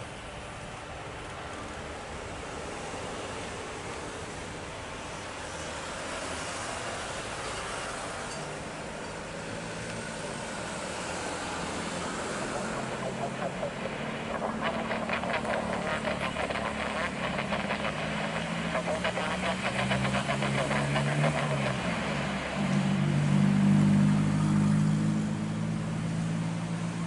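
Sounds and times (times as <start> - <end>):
jet engines roaring: 2.7 - 24.8.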